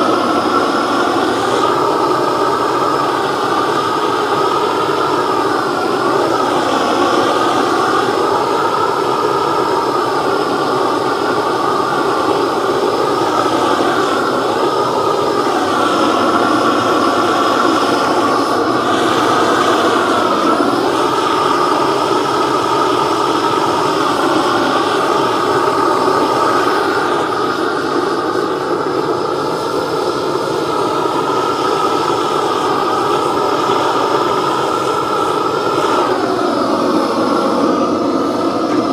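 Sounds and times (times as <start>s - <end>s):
blowtorch flame roaring: 0.0s - 38.9s.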